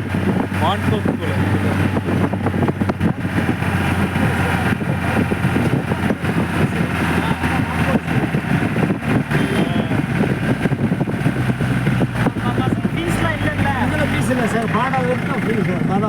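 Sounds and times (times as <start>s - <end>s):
jeep engine running: 0.0s - 16.0s.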